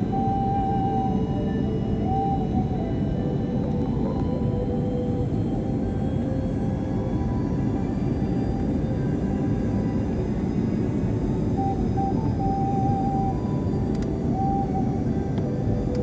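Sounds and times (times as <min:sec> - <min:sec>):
aircraft engines and rushing air: 0:00.0 - 0:16.0
thin whining tone: 0:00.0 - 0:16.0.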